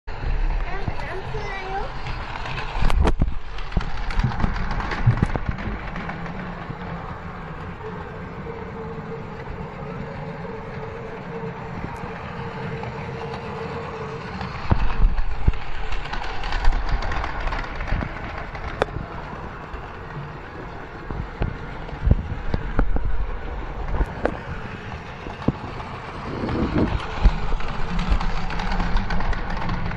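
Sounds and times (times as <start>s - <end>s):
toy train motor hum and whine: 0.1s - 29.9s
toy train rattling over track: 0.4s - 29.9s.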